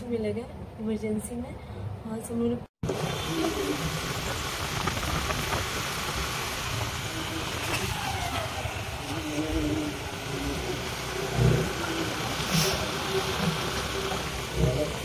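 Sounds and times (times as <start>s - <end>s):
steady rushing noise: 2.8s - 15.0s.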